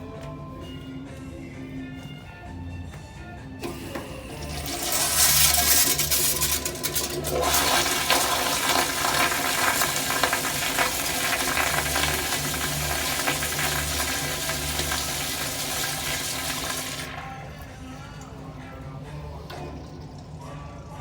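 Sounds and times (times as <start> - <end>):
toilet flushing: 3.6 - 21.0.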